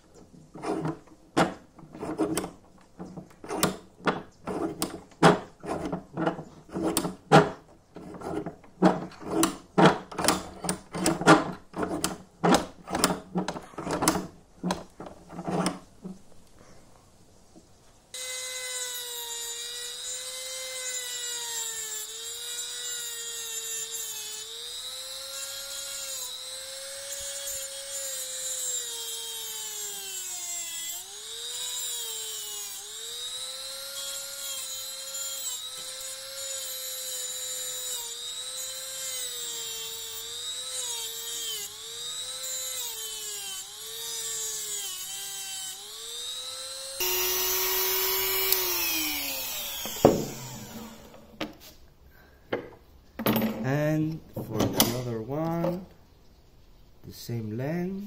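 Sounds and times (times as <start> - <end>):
rotary tool cutting metal: 0.6 - 15.8, 18.2 - 51.4.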